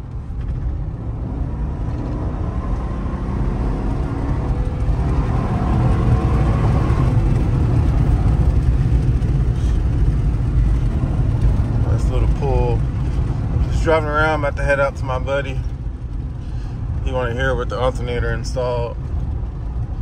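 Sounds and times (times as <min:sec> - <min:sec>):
car engine accelerating: 0:00.0 - 0:17.8.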